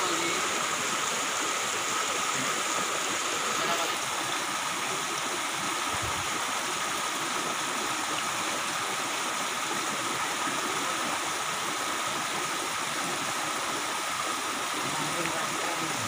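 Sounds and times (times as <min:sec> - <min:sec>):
stream splashing over stones: 0:00.0 - 0:16.0.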